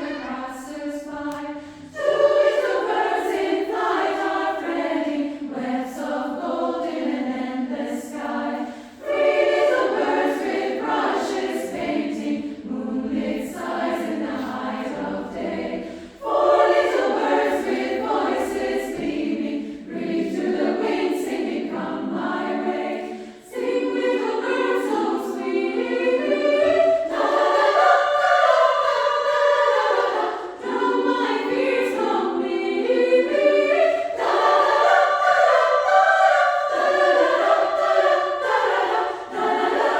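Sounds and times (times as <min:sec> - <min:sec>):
female choir singing: 0:00.0 - 0:39.9.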